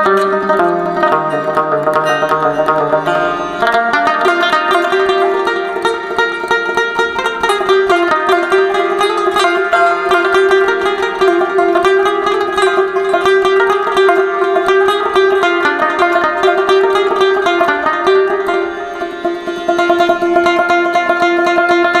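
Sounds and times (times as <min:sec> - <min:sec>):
fast picked string music: 0:00.0 - 0:22.0.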